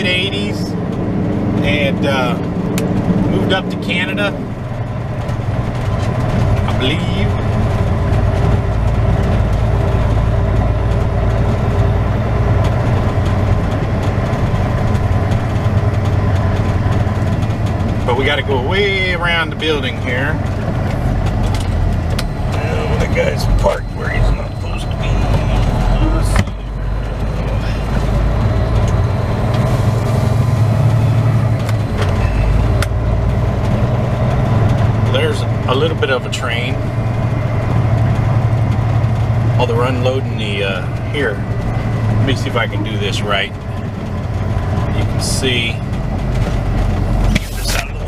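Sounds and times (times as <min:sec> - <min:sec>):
truck diesel engine drone: 0:00.0 - 0:48.0.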